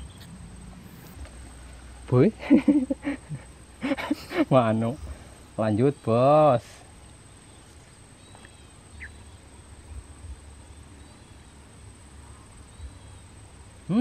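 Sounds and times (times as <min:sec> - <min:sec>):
faint bird chirps: 0:00.0 - 0:02.1, 0:04.2 - 0:14.0
high insect whine: 0:00.0 - 0:14.0.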